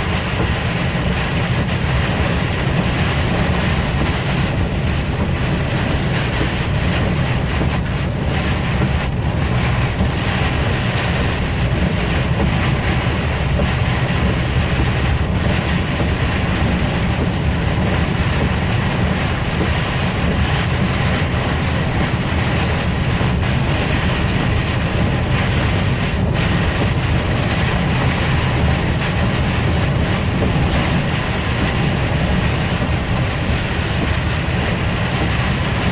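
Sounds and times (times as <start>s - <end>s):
road and wind noise hiss: 0.0s - 35.9s
vehicle rumble in motion: 0.0s - 35.9s.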